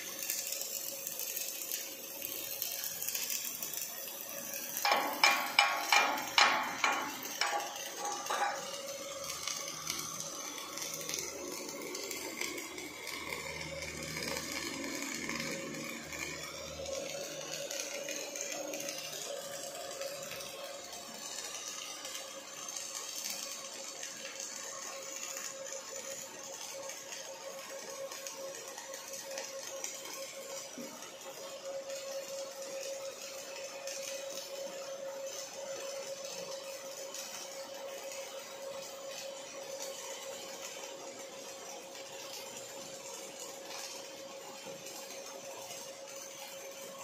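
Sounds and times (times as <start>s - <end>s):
welding torch hissing: 0.0s - 47.0s.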